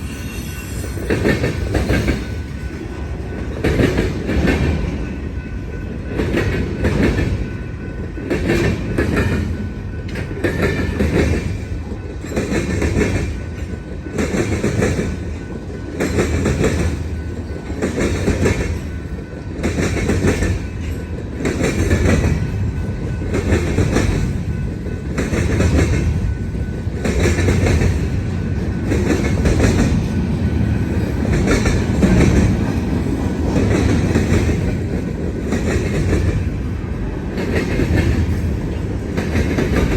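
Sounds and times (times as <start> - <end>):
freight train rumble: 0.0 - 39.9
train wheels clattering over joints: 0.9 - 39.9.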